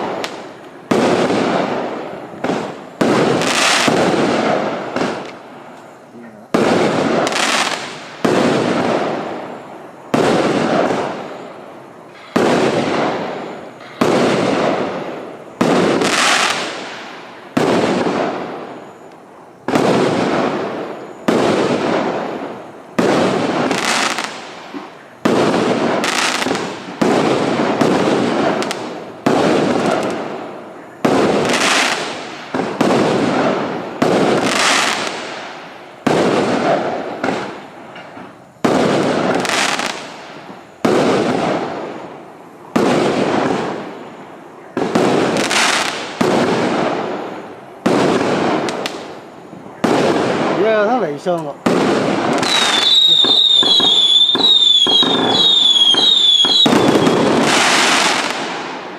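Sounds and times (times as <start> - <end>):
fireworks bangs: 0.0 - 58.9.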